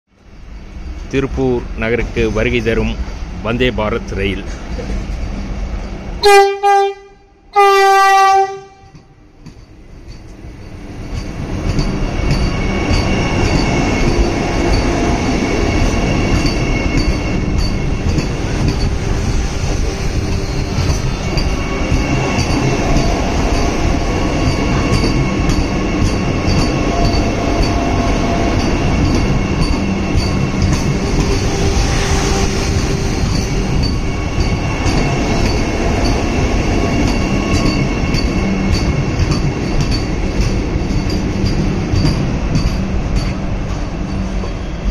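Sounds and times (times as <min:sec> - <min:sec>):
electric train running: 0:07.8 - 0:44.9
wheels squealing on rails: 0:08.9 - 0:44.9.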